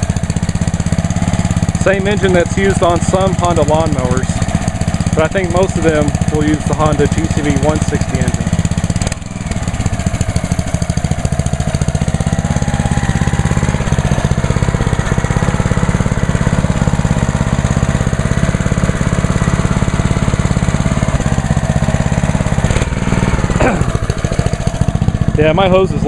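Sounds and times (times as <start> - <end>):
pressure washer engine idling: 0.0 - 26.0.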